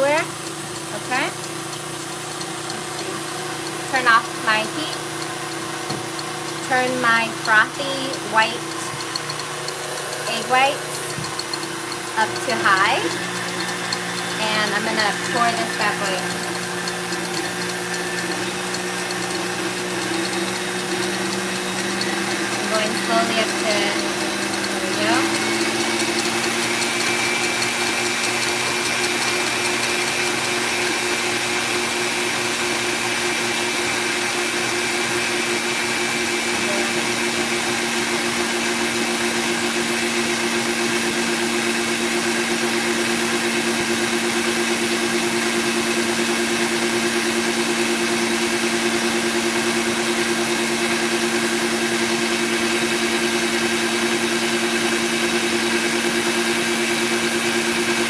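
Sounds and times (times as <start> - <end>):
stand mixer motor whining: 0.0 - 58.0.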